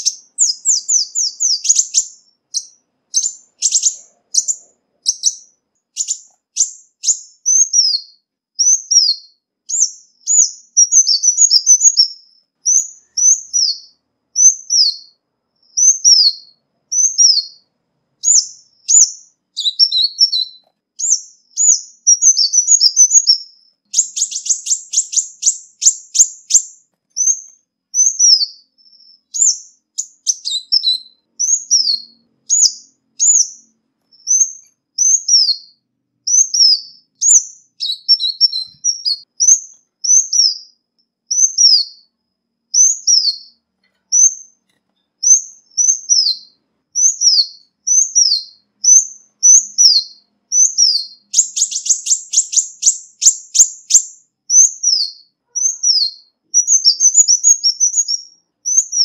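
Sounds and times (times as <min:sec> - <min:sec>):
bird twittering: 0:00.0 - 0:42.1, 0:42.8 - 0:44.6, 0:45.2 - 0:59.0.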